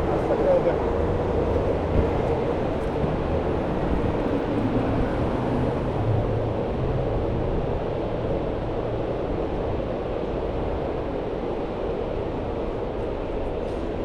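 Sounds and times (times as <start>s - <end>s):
city street traffic hum: 0.0s - 14.0s.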